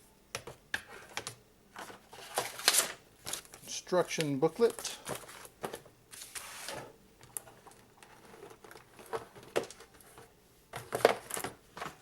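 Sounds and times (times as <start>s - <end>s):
plastic packaging rustling: 1.7s - 12.0s.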